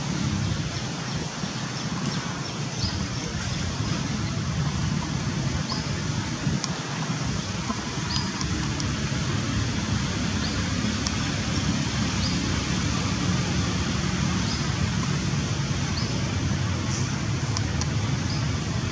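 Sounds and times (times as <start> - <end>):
low rumbling background noise: 0.0 - 18.9.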